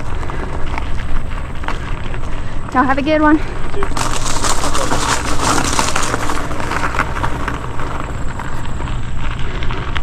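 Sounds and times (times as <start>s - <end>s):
bike tyres crunching over ground: 0.0s - 10.0s
wind rumbling on microphone: 0.0s - 10.0s.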